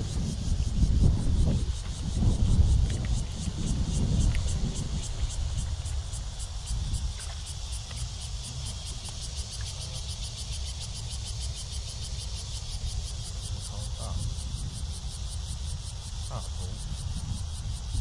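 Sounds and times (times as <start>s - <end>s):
insects calling in pulses: 0.0s - 18.0s.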